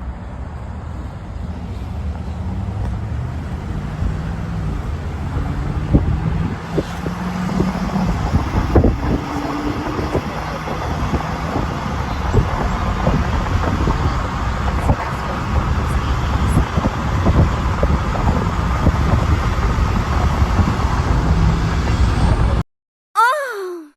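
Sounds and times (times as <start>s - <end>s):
vehicle engine rumble: 0.0s - 22.6s.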